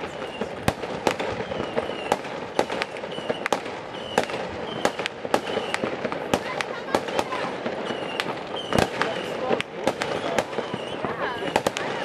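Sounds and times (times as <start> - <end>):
firework whistles: 0.0 - 12.0
fireworks bangs and pops: 0.0 - 12.0
fireworks crackling: 0.0 - 12.0.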